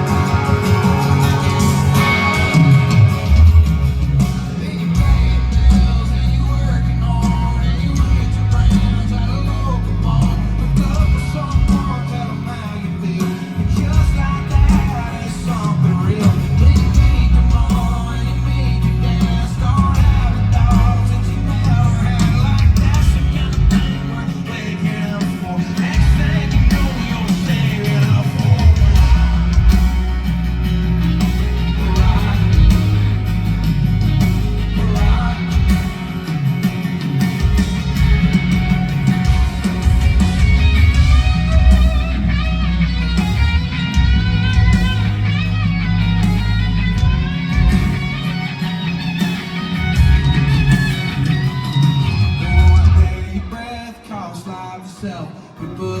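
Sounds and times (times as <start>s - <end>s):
heavy bass line: 0.0s - 53.9s
drums: 0.0s - 56.0s
electric guitars: 0.0s - 56.0s.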